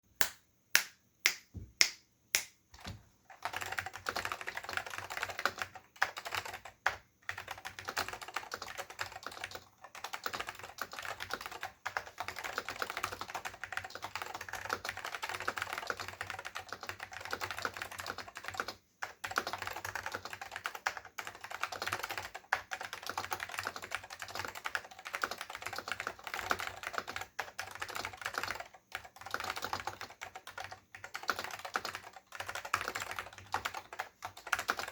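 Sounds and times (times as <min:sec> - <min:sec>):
typing on a mechanical keyboard: 0:02.8 - 0:34.9.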